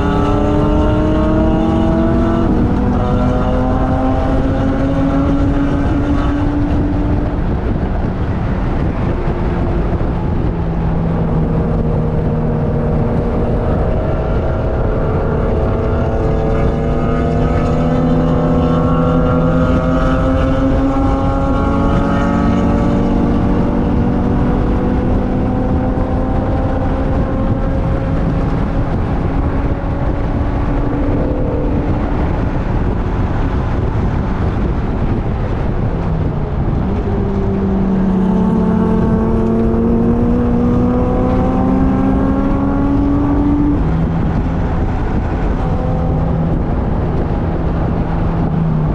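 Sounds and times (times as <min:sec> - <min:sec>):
engine running hard: 0:00.0 - 0:48.9
road noise: 0:00.0 - 0:48.9
wind noise: 0:00.0 - 0:48.9.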